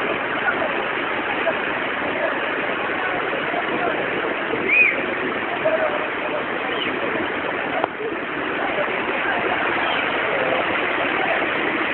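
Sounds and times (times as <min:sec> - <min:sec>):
heavy rain: 0:00.0 - 0:11.9
running rainwater: 0:00.0 - 0:11.9.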